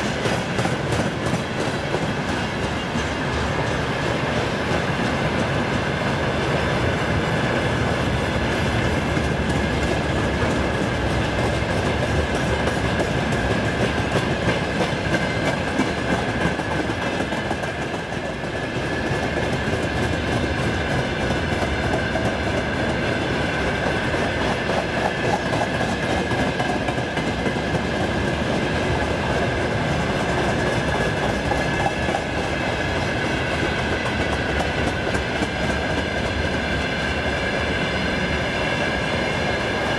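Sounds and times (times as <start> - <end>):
clickety-clack over rail joints: 0.0 - 39.9
steel wheels rumbling on rail: 0.0 - 39.9.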